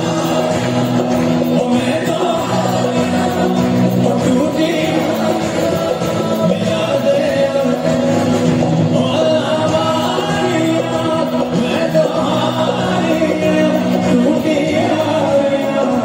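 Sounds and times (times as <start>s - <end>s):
live band playing: 0.0s - 16.0s
man singing long notes: 0.0s - 16.0s.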